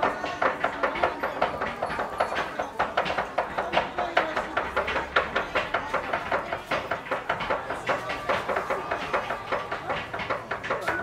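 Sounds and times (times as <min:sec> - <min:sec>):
cleavers chopping hard candy: 0:00.0 - 0:11.0.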